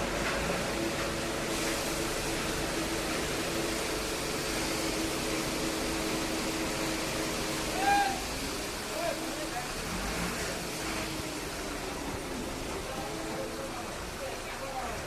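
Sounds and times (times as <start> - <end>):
construction machinery humming: 0.0 - 15.0.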